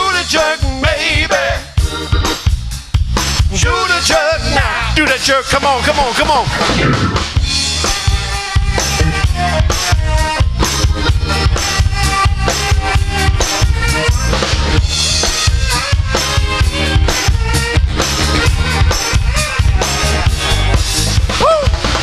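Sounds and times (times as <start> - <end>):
live band playing: 0.0 - 4.3, 5.0 - 22.0
drum kit beat: 0.2 - 3.8, 6.1 - 22.0.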